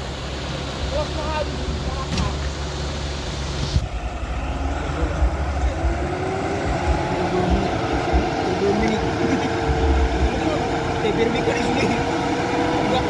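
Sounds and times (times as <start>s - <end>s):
vehicle engine running under load: 0.0s - 13.0s.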